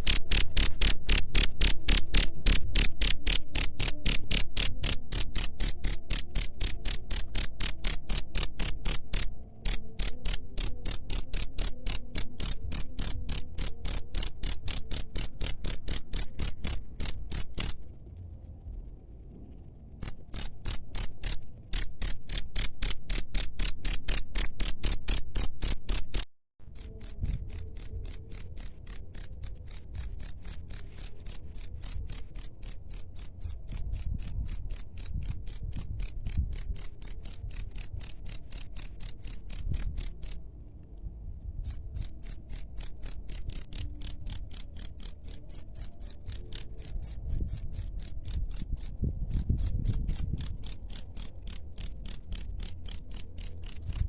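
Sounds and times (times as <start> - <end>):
cricket chirping: 0.0 - 40.4, 41.0 - 54.0.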